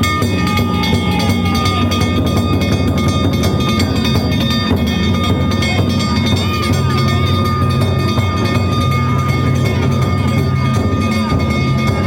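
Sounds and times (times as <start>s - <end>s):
festival music: 0.0s - 12.0s.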